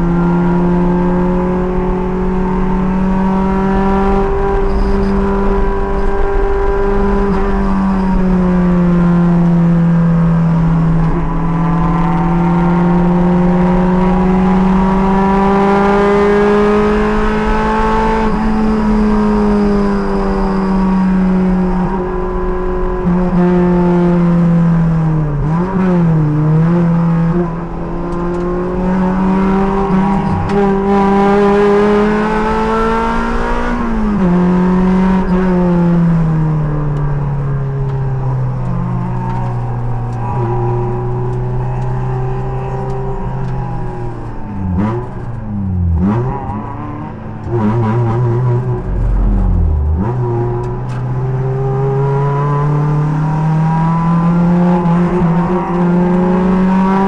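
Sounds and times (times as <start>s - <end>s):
race car engine running hard: 0.0s - 57.0s.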